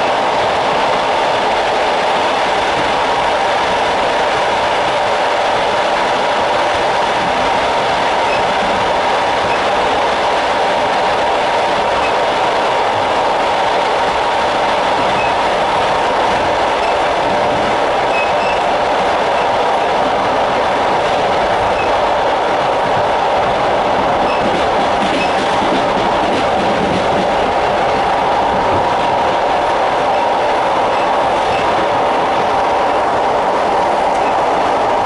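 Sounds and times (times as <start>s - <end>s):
train wheels rolling on rail: 0.0s - 35.0s.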